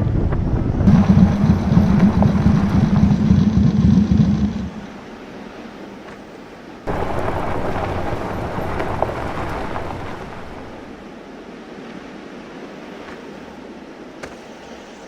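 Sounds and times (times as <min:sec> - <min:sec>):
car and road noise rush: 0:00.0 - 0:14.4.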